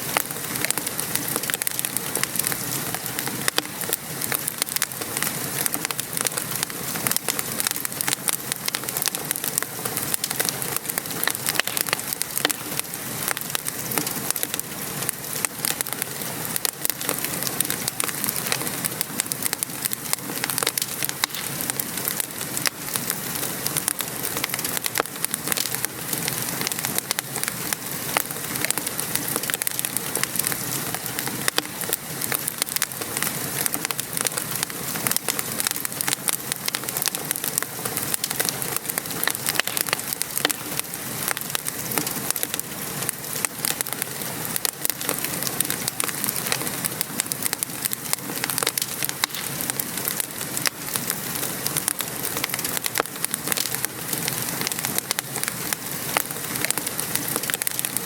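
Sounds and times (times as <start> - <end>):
rain patter: 0.0 - 58.0
wood fire crackling and popping: 0.0 - 58.0.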